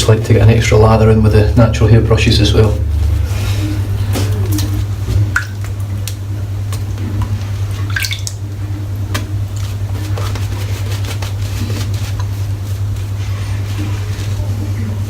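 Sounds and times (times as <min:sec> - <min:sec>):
steady low hum: 0:00.0 - 0:15.0
shaving brush squelching lather: 0:00.1 - 0:15.0.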